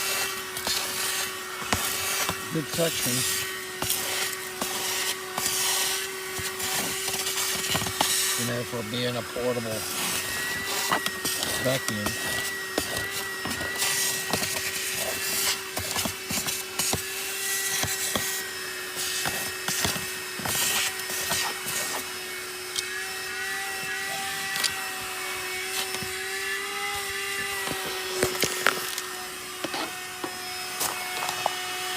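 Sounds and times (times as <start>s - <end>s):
nozzle scraping a surface: 0.0s - 31.7s
handheld vacuum cleaner whining: 0.0s - 31.9s.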